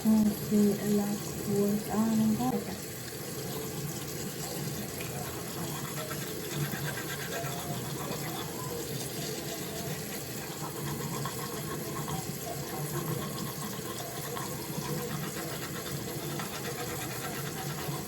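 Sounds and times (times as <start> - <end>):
toothbrush brushing teeth: 3.4 - 18.0.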